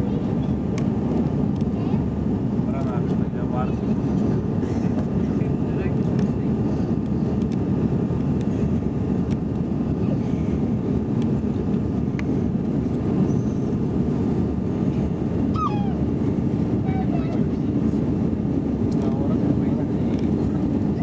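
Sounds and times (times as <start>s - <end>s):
airplane cabin airflow and engines: 0.0s - 21.0s.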